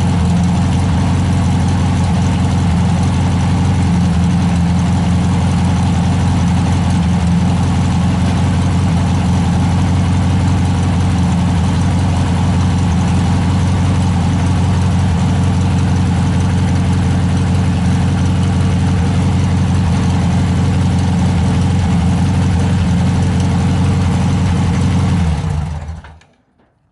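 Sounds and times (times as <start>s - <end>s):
car engine idling: 0.0s - 26.2s.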